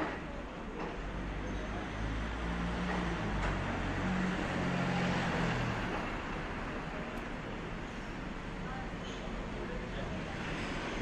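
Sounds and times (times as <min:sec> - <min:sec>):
city traffic: 0:00.0 - 0:11.0.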